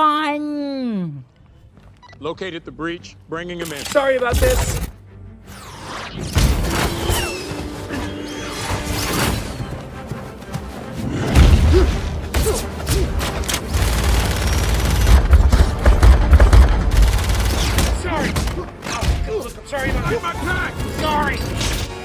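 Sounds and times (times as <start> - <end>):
dramatic film music with booms: 2.6 - 22.0.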